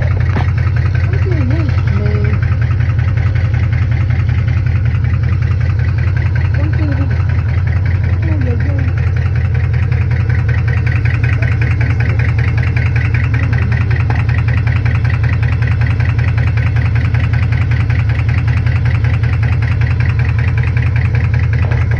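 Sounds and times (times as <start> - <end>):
car engine idling: 0.0 - 21.9
engine ticking or knocking: 0.0 - 21.9.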